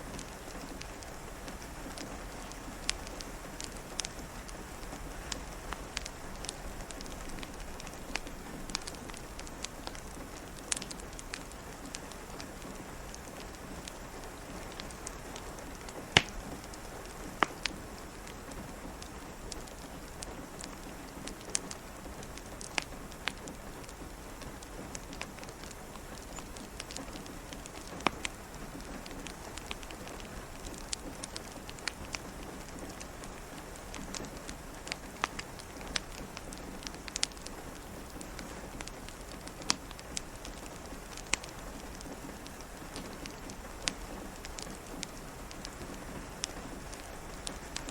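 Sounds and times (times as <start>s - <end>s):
steady rain hiss: 0.0s - 47.9s
wood fire crackling and popping: 0.0s - 47.9s.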